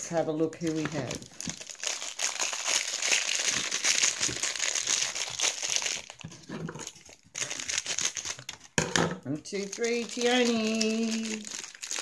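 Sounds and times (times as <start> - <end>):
plastic wrapper crumpling: 0.4 - 8.8, 9.5 - 12.0.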